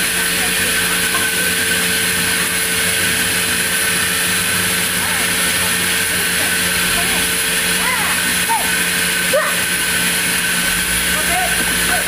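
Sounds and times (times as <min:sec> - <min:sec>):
band sawmill running: 0:00.0 - 0:12.0.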